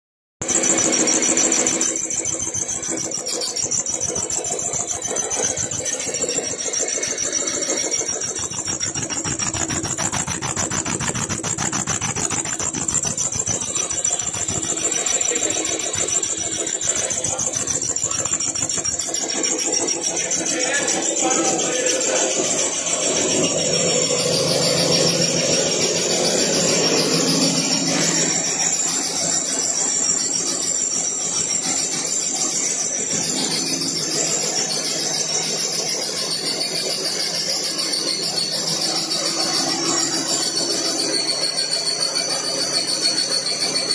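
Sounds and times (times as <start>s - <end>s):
line boring machine running: 0.4s - 43.9s.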